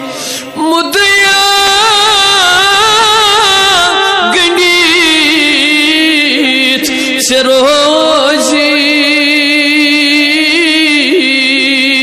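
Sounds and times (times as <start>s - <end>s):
person singing with vibrato: 0.0s - 12.0s.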